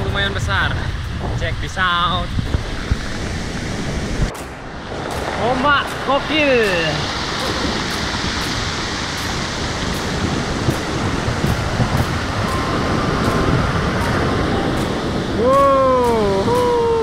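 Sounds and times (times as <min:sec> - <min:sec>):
surf breaking on rocky shore: 0:00.0 - 0:17.0.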